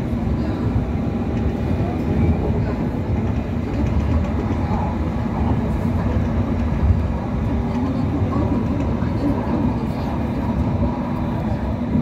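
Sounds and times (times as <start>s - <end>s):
tram wheels rumbling on track: 0.0s - 12.0s.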